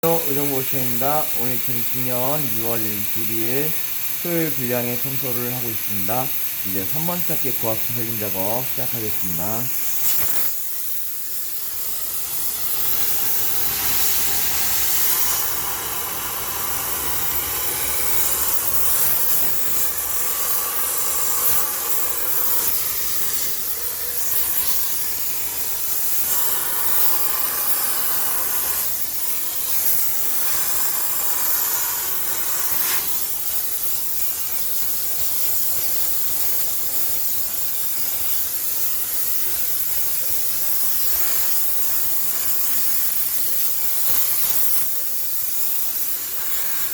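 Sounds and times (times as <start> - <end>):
steam jet hissing: 0.0 - 46.9.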